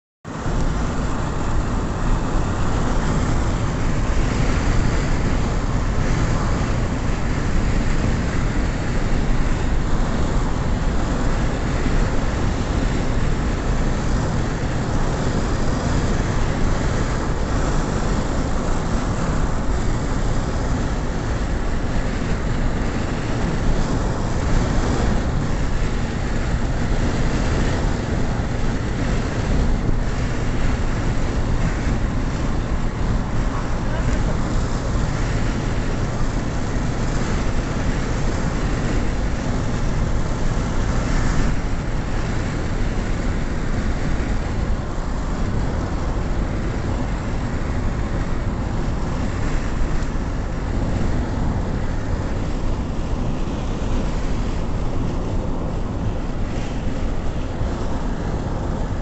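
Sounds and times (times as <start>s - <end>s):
tyres on asphalt: 0.2s - 59.0s
car engine: 0.3s - 59.0s.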